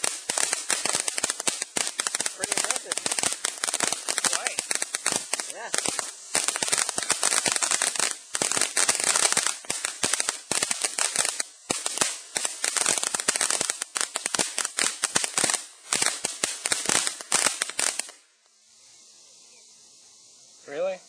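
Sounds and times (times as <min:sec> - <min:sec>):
firecrackers popping: 0:00.0 - 0:19.0.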